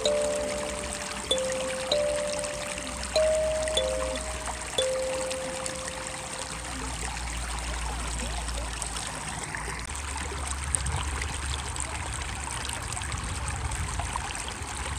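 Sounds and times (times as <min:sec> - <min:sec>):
stream trickling over stones: 0:00.0 - 0:14.9.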